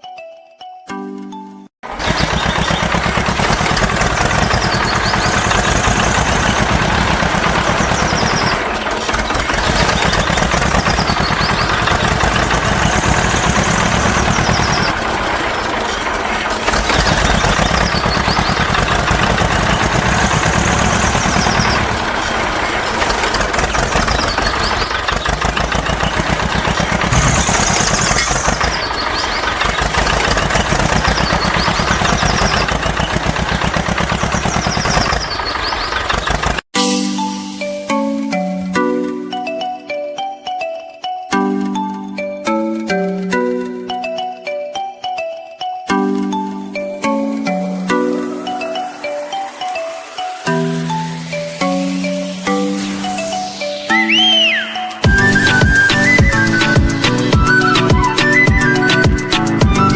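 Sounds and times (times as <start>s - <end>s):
tractor engine running: 1.8s - 40.3s, 41.3s - 45.0s, 45.9s - 59.9s.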